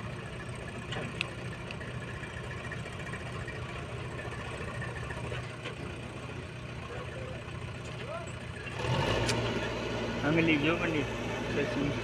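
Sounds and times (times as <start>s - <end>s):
heavy machine diesel engine running: 0.0s - 12.0s.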